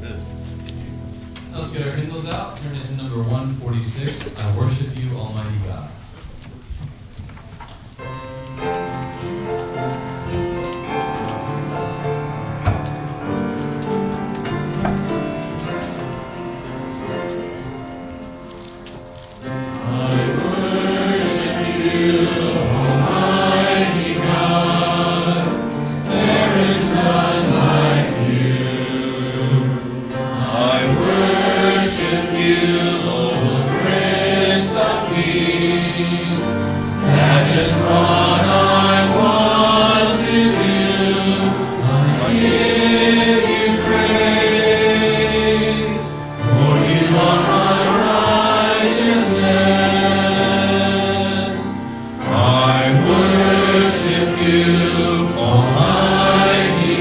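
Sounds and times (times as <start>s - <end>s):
instrumental accompaniment: 7.8s - 57.0s
group singing a hymn: 8.0s - 57.0s.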